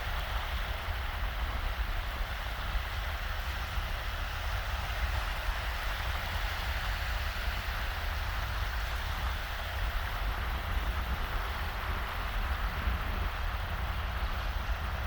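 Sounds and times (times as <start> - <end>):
small waves washing onto sand: 0.0 - 15.0
wind rumble on microphone: 0.0 - 15.0.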